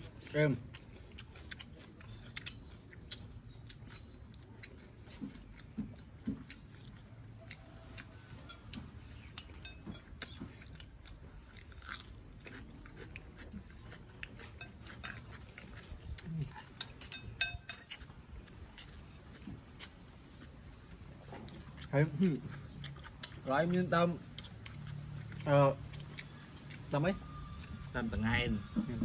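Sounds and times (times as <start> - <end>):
people chewing and crunching food: 0.0 - 29.0.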